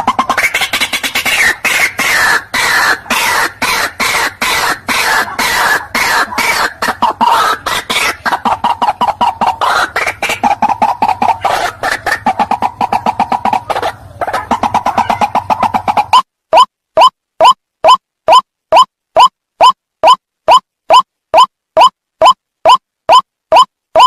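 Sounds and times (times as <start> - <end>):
bird calling harsh repeated notes: 0.0 - 24.0.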